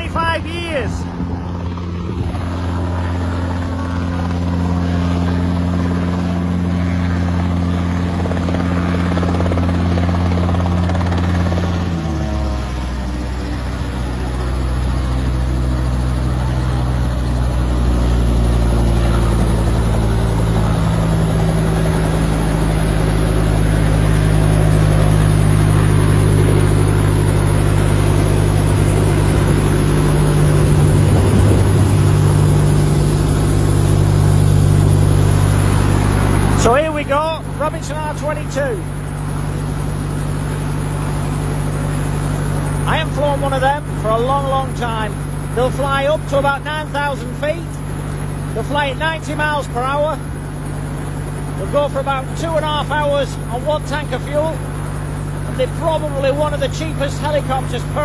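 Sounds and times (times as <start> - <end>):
helicopter running: 0.0 - 58.0.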